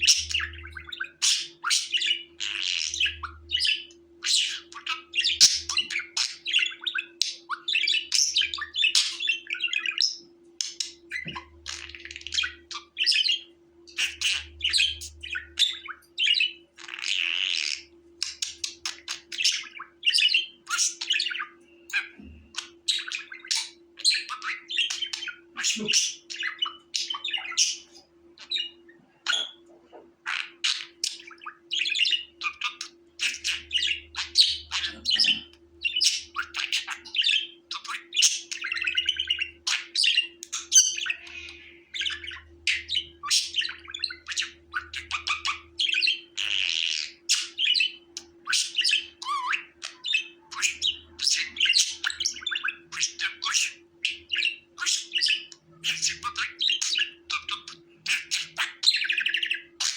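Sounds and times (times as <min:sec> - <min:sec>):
budgerigar chattering: 0:00.0 - 0:59.9.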